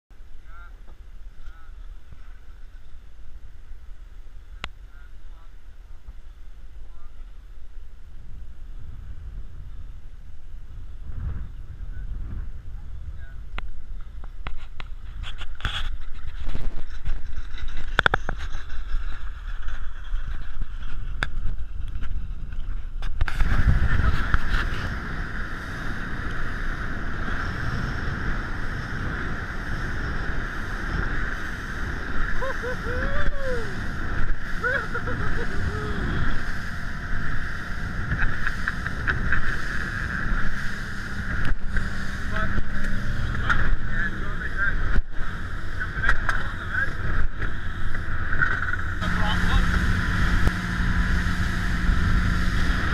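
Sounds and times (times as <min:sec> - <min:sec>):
low rumble: 0:00.1 - 0:52.9
water rushing along hull: 0:00.2 - 0:52.9
wind buffeting microphone: 0:07.6 - 0:52.9.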